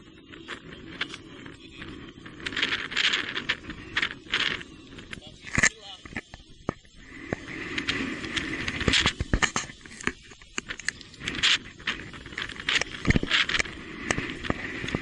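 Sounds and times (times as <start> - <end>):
bike knocks clatters and scraping: 0.0 - 15.0
rain: 0.0 - 15.0
tyres hissing on wet trail: 0.3 - 15.0.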